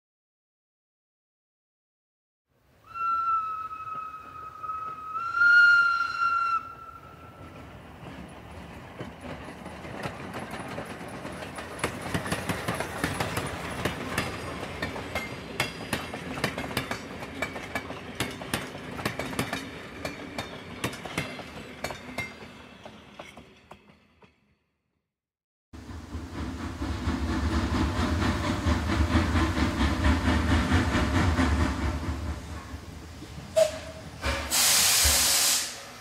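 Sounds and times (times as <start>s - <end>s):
train rattling on rails: 3.7s - 24.4s, 25.8s - 36.0s.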